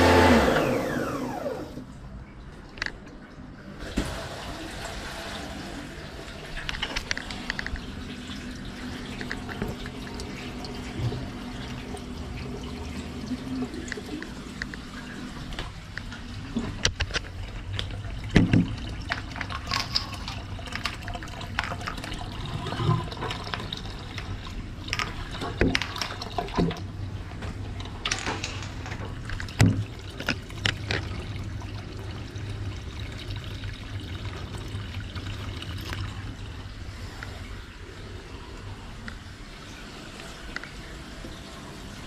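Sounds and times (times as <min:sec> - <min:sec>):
water sloshing in a drain: 0:00.0 - 0:42.0.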